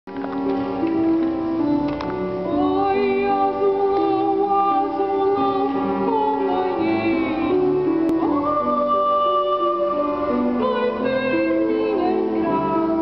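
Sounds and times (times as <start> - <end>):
upright piano accompaniment: 0.1 - 13.0
woman singing: 2.4 - 13.0.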